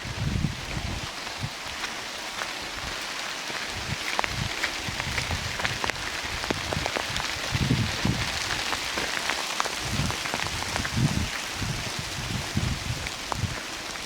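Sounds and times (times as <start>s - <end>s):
rain hiss: 0.0s - 14.0s.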